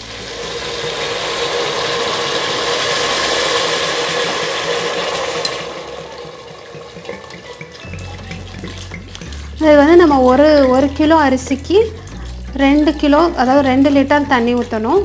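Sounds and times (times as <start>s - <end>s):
water pouring into a pot: 0.0s - 15.0s.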